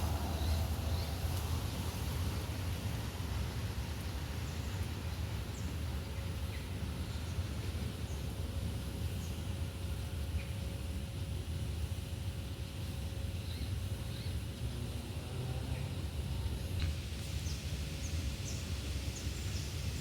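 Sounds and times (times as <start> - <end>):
steady low rumble: 0.0 - 15.1, 15.9 - 20.0
faint steady hum: 0.0 - 20.0.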